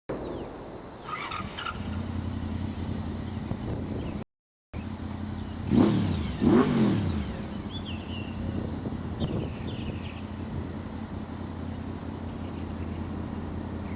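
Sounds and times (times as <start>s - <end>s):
motorcycle engine humming: 0.1s - 4.2s, 4.8s - 13.9s
motorcycle passing under acceleration: 1.0s - 4.2s, 4.8s - 13.9s.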